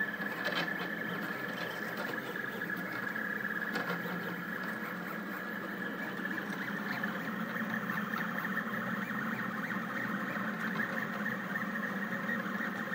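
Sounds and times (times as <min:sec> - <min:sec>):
stepper motors whining: 0:00.0 - 0:12.9.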